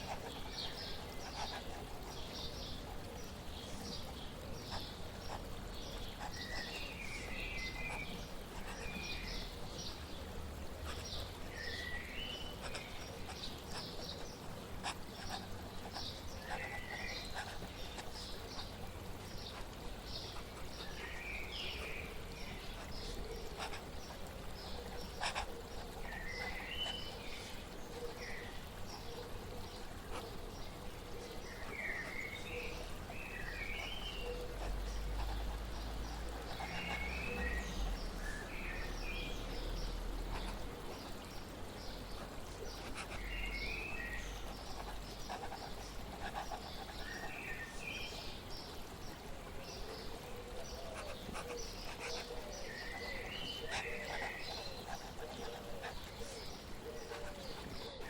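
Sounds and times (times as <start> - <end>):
flowing water: 0.0 - 58.0
small birds chirping: 0.0 - 58.0.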